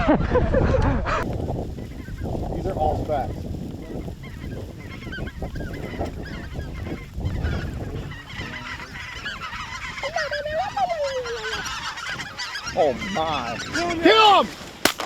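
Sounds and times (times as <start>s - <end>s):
wind rumbling on microphone: 0.0s - 15.0s
geese yelping calls: 1.2s - 15.0s.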